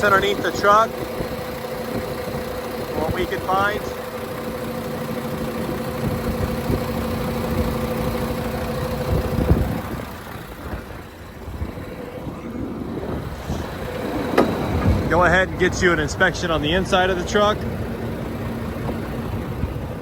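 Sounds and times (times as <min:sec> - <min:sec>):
diesel truck engine idling: 0:00.0 - 0:20.0
engine knock: 0:00.0 - 0:20.0.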